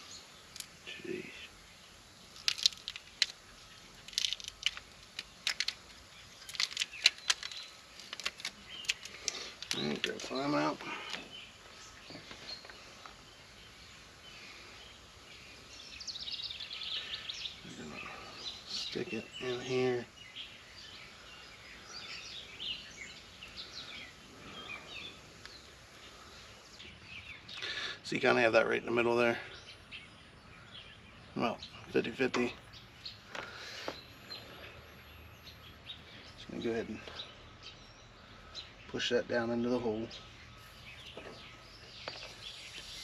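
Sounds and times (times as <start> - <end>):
faint outdoor background noise: 0.0 - 43.0
songbirds chirping: 0.0 - 43.0.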